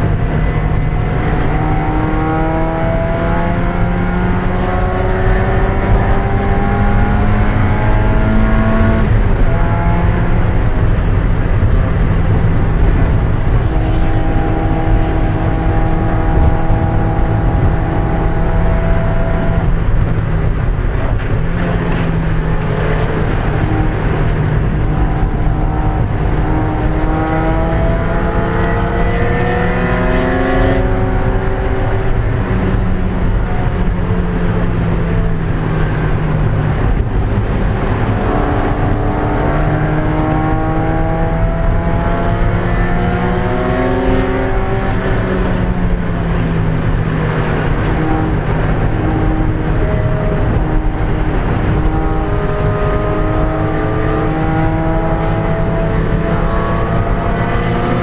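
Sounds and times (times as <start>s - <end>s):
racing car engine running hard: 0.0s - 58.0s
road noise rushing: 0.0s - 58.0s.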